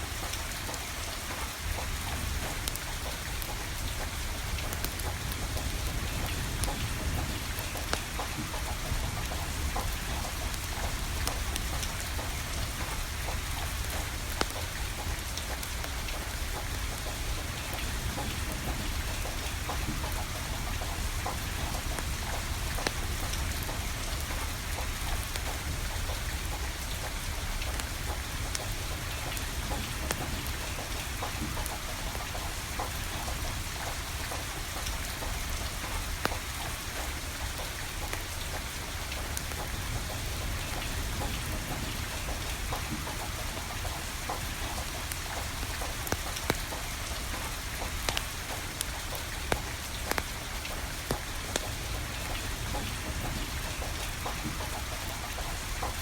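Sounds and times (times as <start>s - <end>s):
steady rain: 0.0s - 56.0s
wood fire popping and crackling: 0.1s - 56.0s.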